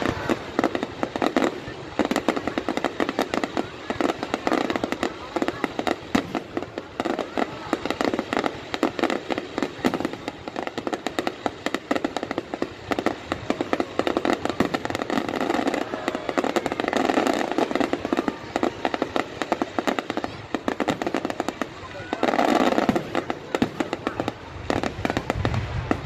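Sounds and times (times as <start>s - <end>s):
fireworks crackling: 0.0s - 26.0s
fireworks pops and bangs: 0.0s - 26.0s.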